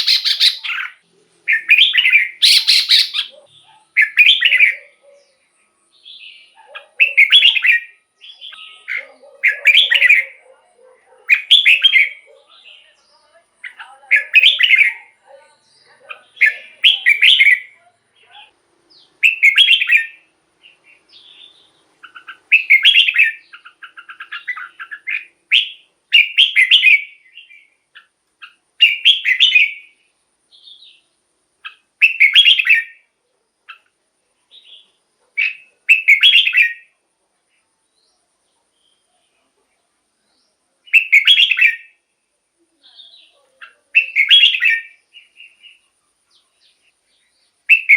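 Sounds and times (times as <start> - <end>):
bird singing: 0.0 - 37.0, 37.6 - 47.9.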